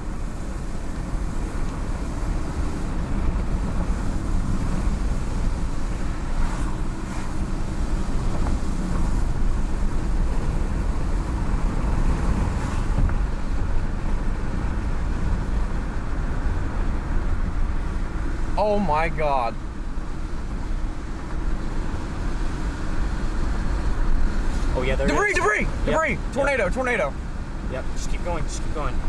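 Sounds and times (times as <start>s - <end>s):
car road and wind noise: 0.0s - 29.0s.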